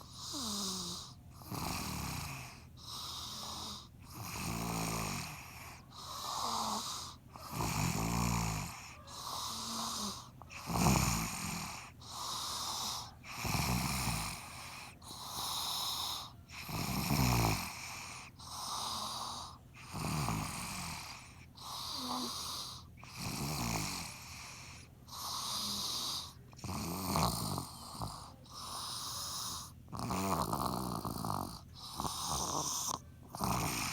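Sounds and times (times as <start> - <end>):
person snoring loudly: 0.2 - 33.9.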